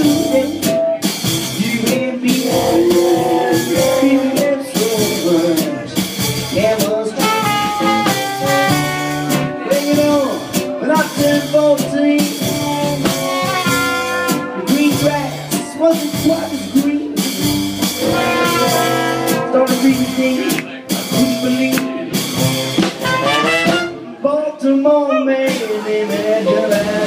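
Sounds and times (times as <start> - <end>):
trumpet and trombone melody: 0.0 - 15.5, 17.8 - 20.6, 22.5 - 24.2, 25.0 - 27.0
acoustic guitar: 0.0 - 24.2
drum kit: 0.0 - 24.2, 25.2 - 27.0
upright bass: 0.0 - 27.0.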